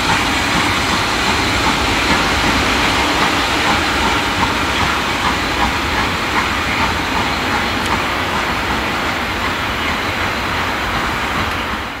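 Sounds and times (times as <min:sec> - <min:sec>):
steam train rumble and hiss: 0:00.0 - 0:12.0.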